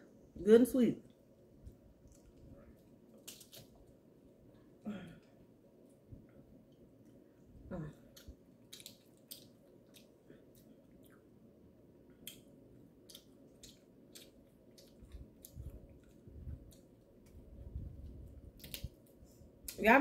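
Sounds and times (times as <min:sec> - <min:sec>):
faint chewing: 0:01.1 - 0:11.4, 0:12.0 - 0:19.8.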